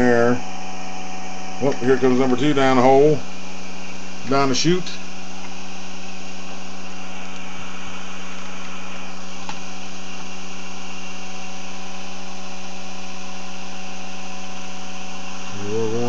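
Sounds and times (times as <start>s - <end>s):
motor buzzing hum: 0.0s - 16.0s.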